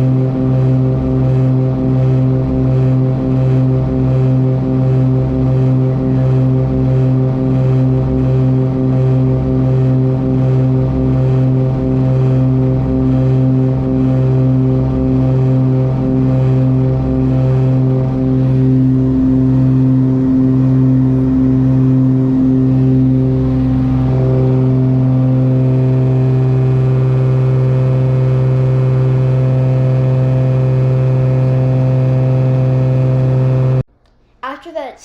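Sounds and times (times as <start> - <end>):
propeller plane engines droning: 0.0 - 33.5.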